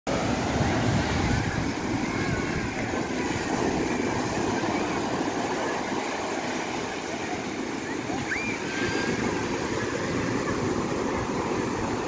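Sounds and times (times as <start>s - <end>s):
sea surf breaking: 0.1s - 12.0s
wind buffeting microphone: 0.1s - 12.0s.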